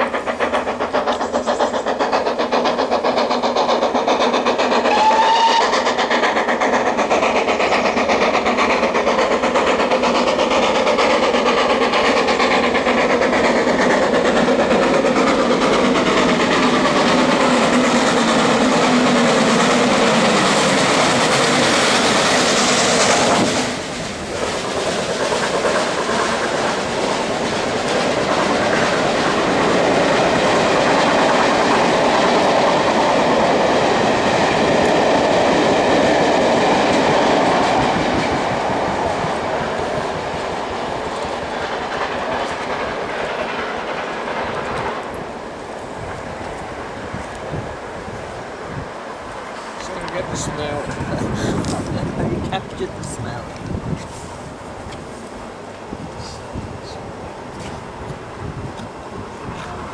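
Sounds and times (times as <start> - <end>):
steam locomotive working: 0.0 - 59.9
train wheels clickety-clack: 0.0 - 59.9.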